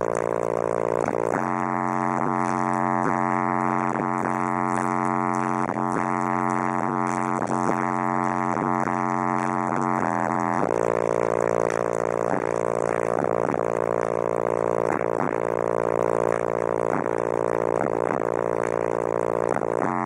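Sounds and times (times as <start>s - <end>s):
bass-heavy music through subwoofers: 0.0s - 20.0s.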